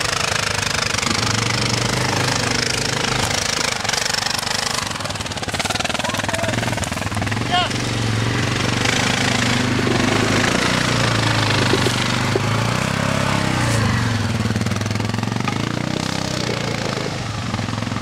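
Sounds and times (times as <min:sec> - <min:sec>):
quad engine running under load: 0:00.0 - 0:18.0.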